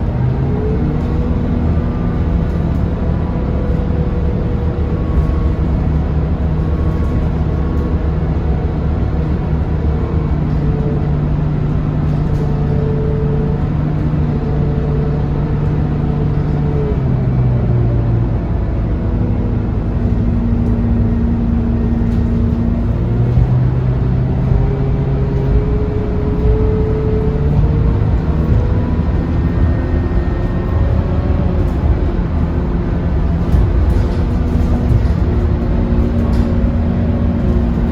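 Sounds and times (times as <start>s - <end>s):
bus diesel engine running: 0.0s - 37.9s
road noise: 0.0s - 37.9s.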